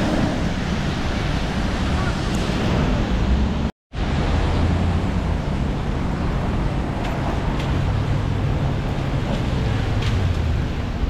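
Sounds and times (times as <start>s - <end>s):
city street traffic: 0.0s - 11.0s
vehicle engine hum: 0.0s - 11.0s.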